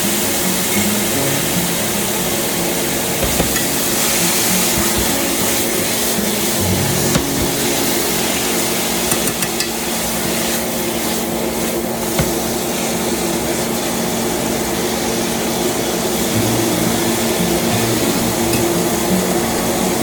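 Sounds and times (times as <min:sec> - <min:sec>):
range hood fan humming: 0:00.0 - 0:20.0.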